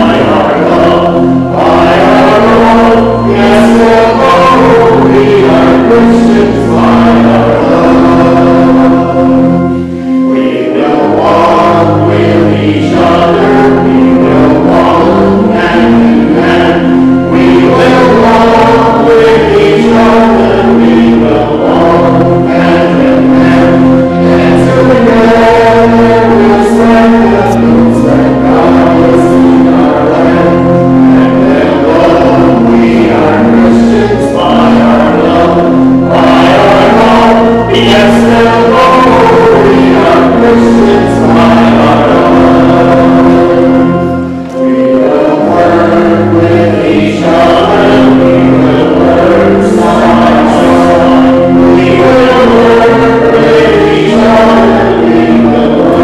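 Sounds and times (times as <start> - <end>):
choir singing a hymn: 0.0 - 56.0
sustained chordal accompaniment: 0.0 - 56.0.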